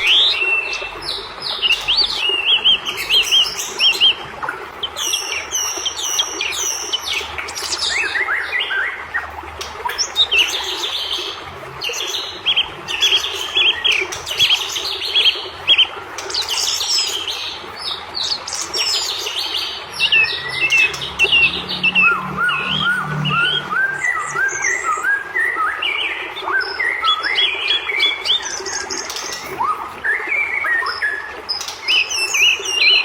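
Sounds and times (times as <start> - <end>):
bird singing chirps and trills: 0.0 - 33.0.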